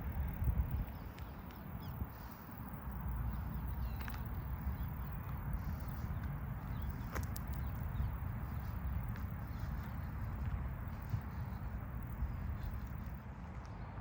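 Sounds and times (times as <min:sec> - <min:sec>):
footsteps on park path: 0:00.0 - 0:14.0
steady low rumble: 0:00.0 - 0:14.0.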